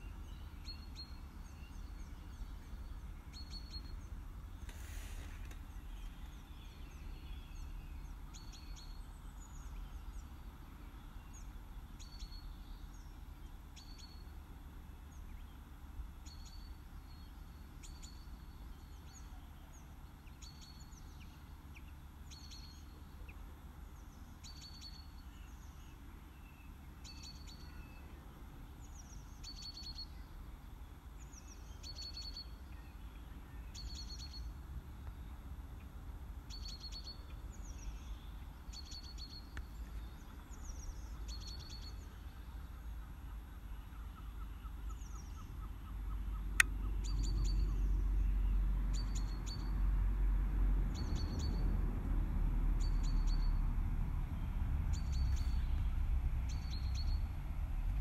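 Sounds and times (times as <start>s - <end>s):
low steady rumble: 0.0s - 58.0s
songbird chirping: 0.0s - 58.0s.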